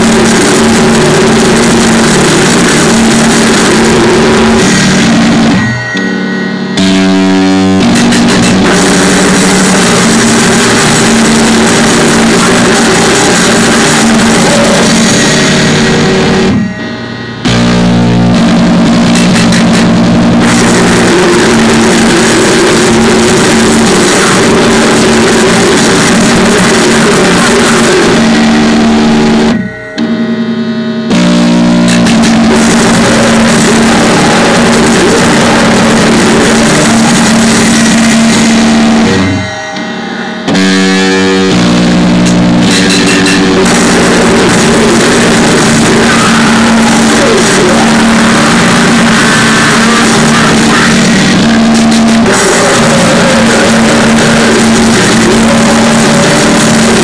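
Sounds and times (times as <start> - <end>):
pounding drums: 0.0 - 30.3, 31.0 - 57.0
distorted guitars: 0.0 - 57.0.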